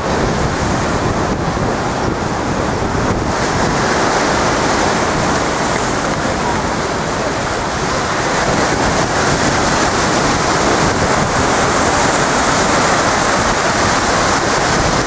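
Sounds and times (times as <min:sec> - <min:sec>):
storm waves breaking: 0:00.0 - 0:15.0
wind buffeting microphone: 0:00.0 - 0:15.0.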